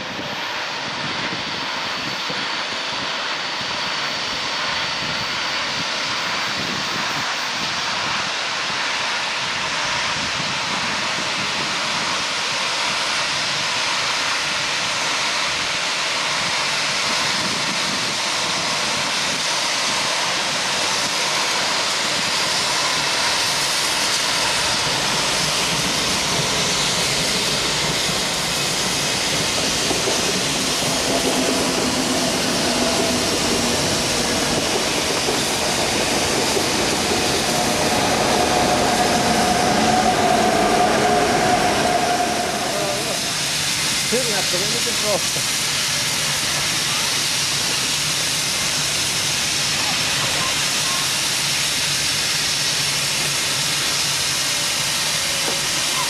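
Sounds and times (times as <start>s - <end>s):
steam locomotive hissing steam: 0.0s - 56.0s.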